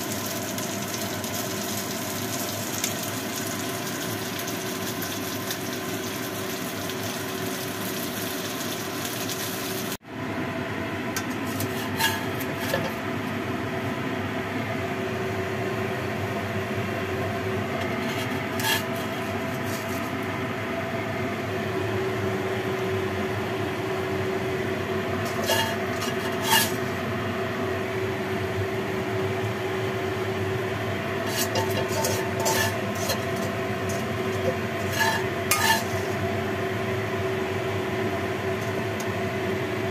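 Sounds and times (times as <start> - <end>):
kitchen hum: 0.0 - 39.9.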